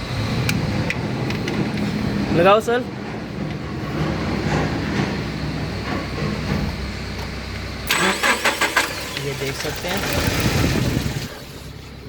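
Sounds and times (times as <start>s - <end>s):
car engine cranking: 0.0s - 12.0s.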